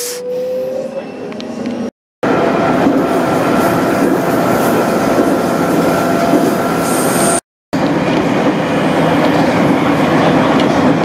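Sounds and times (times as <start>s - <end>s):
train wheels rumbling on rail: 1.3s - 11.0s.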